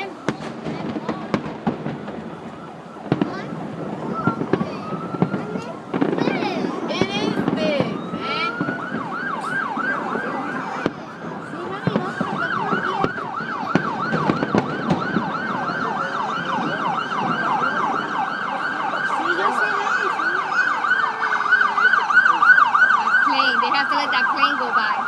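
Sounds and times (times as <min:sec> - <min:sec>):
emergency siren yelping: 0:00.0 - 0:25.0.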